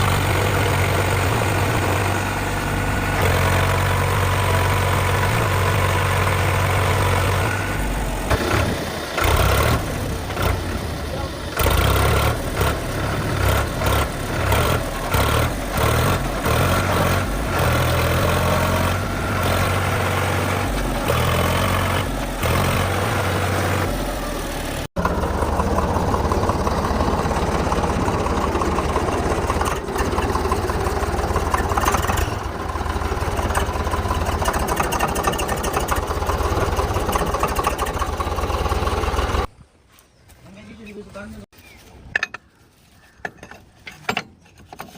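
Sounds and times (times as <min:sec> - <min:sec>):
diesel tractor engine running: 0:00.0 - 0:39.5.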